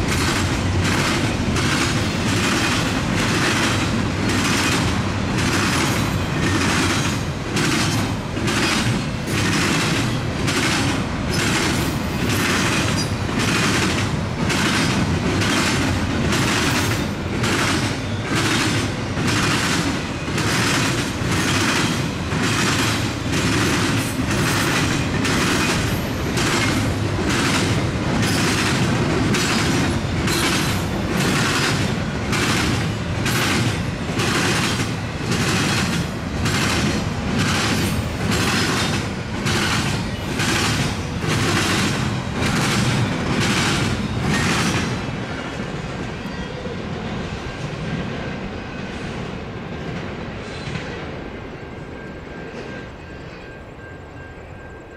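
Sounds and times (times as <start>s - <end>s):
rhythmic clickety-clack: 0.0s - 46.1s
train wheels rumbling on rail: 0.0s - 54.9s.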